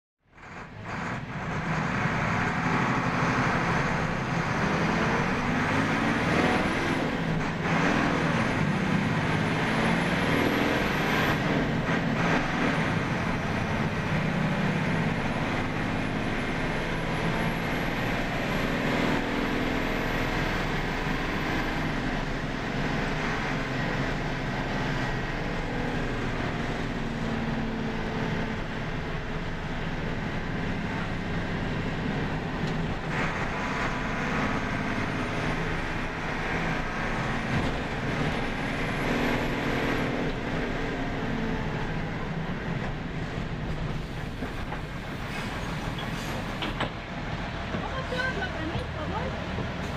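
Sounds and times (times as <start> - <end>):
bus diesel engine running: 0.2 - 49.9.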